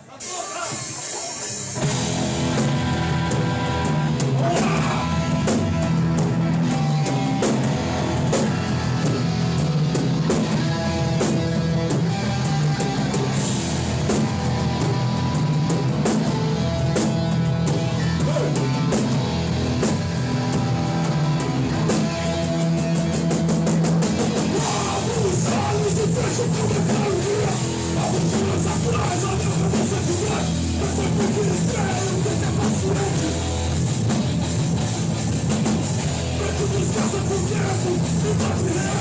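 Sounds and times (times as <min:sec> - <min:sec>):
distorted electric guitars: 0:00.0 - 0:39.0
drum kit beat: 0:00.0 - 0:39.0
bass chugging chords: 0:01.6 - 0:39.0.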